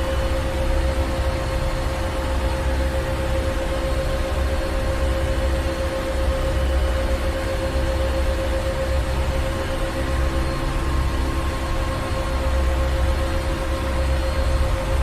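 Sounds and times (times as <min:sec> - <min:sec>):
constant hum tone: 0:00.0 - 0:15.0.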